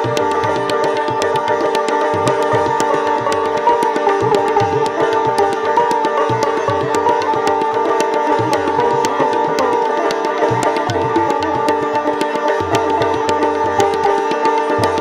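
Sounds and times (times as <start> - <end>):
sitar: 0.0 - 15.0
tabla: 0.0 - 15.0.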